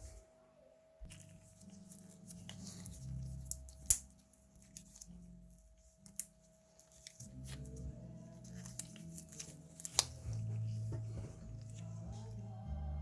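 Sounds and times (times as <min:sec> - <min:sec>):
handling noise rubbing and clicks: 0:01.1 - 0:12.3.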